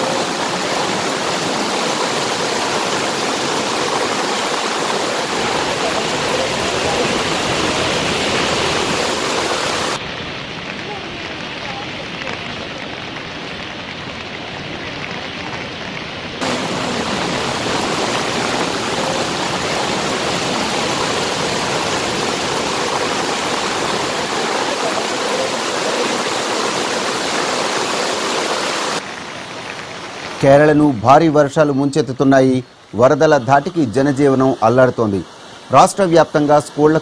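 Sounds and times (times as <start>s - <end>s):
rushing floodwater: 0.0s - 37.0s.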